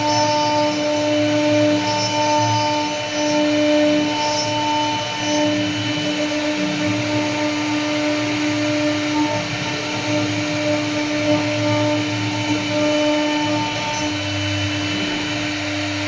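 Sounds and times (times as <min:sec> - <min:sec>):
router bit cutting wood: 0:00.0 - 0:16.0
router spindle motor whine: 0:00.0 - 0:16.0.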